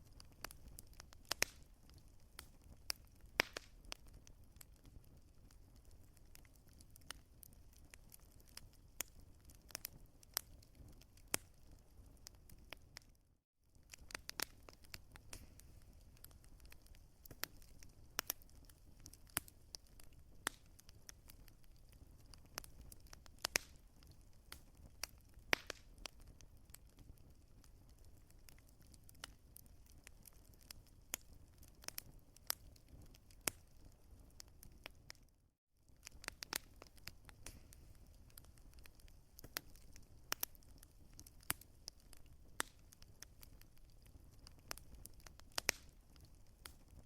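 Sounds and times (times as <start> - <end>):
low fire rumble: 0.0 - 13.1, 13.7 - 35.3, 35.9 - 47.0
wood fire crackling: 0.0 - 47.0.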